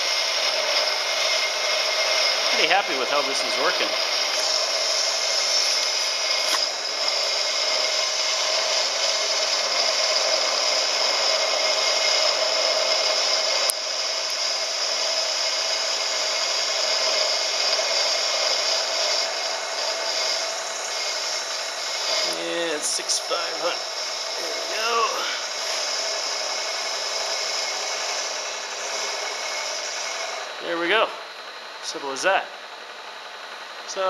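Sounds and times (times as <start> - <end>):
milling machine whirring: 0.0 - 34.0.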